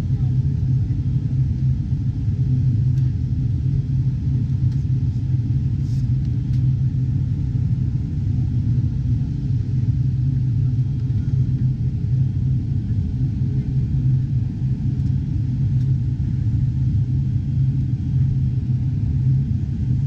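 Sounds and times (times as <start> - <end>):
airplane engines droning in cabin: 0.0 - 20.0.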